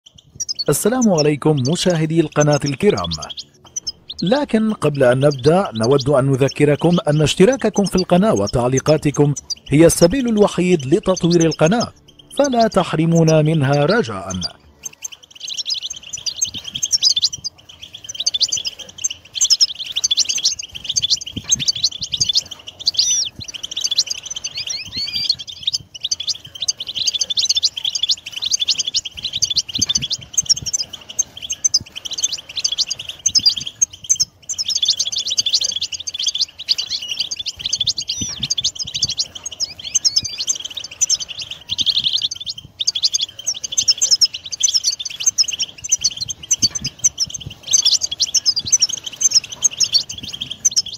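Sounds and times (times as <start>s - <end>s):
finch twittering song: 0.0s - 50.9s.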